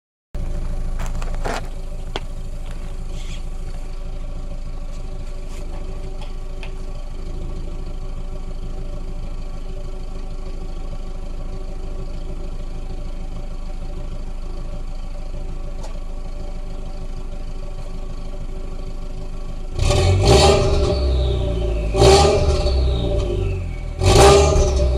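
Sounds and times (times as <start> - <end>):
car engine idling and revving: 0.4 - 24.9.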